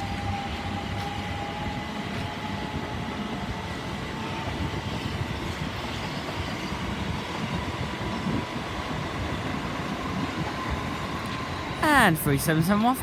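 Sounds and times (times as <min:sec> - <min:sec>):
faint train whine: 0:00.0 - 0:13.0
train carriages rumbling past: 0:00.0 - 0:13.0.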